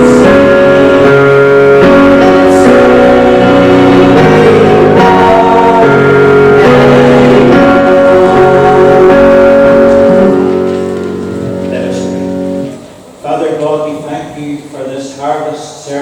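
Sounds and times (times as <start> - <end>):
hymn music in church: 0.0 - 16.0.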